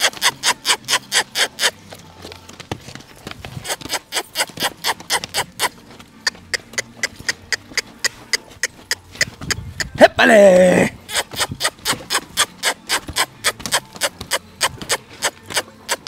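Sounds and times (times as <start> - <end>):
horse hooves striking ground: 0.0 - 16.0.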